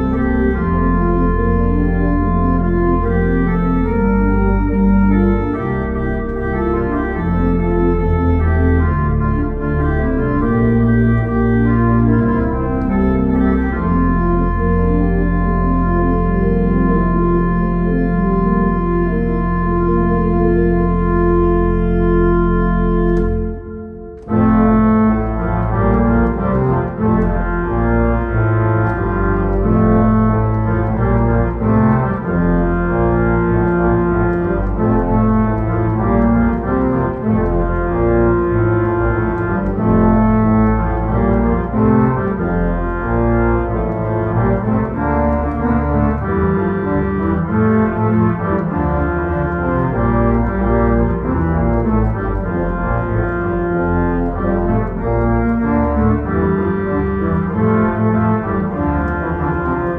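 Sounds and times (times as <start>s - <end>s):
church organ playing: 0.0s - 59.9s.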